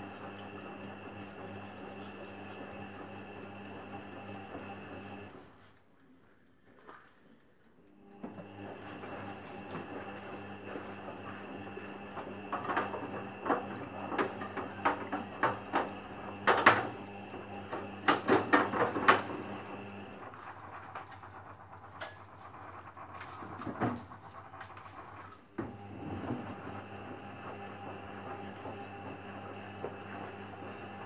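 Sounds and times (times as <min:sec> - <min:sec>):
washing machine motor humming: 0:00.0 - 0:05.4, 0:08.0 - 0:31.0.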